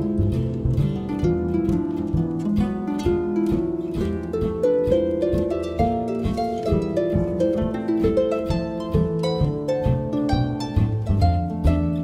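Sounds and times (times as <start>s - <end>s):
harp melody: 0.0s - 12.0s
low harp strokes: 0.0s - 12.0s.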